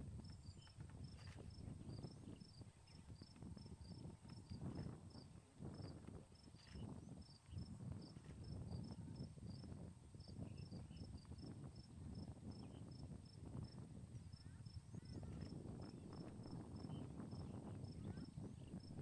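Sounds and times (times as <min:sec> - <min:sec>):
insect chirping: 0:00.2 - 0:19.0.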